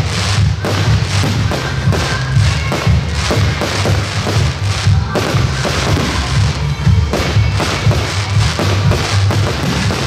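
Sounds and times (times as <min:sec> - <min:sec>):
fireworks bursting and crackling: 0:00.0 - 0:10.0
loud music with bass beat: 0:00.0 - 0:10.0.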